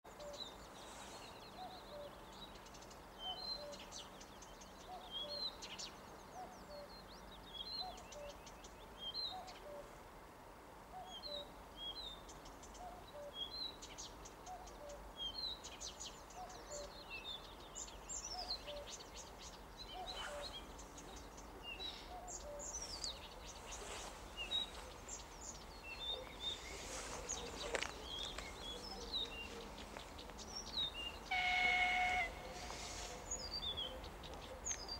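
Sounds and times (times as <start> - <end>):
songbirds singing: 0.0 - 10.0, 10.8 - 34.9.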